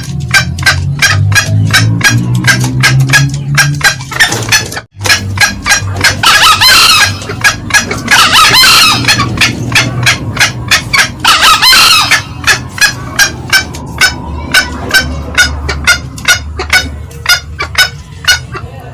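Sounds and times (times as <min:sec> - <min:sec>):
junglefowl crowing: 0:00.0 - 0:18.7
junglefowl cackling: 0:00.0 - 0:18.9.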